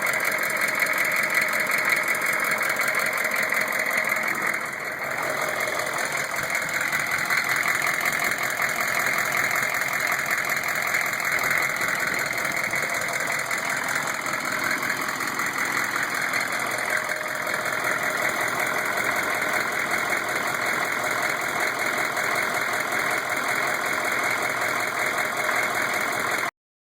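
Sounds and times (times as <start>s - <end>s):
diesel engine knocking: 0.0s - 26.5s.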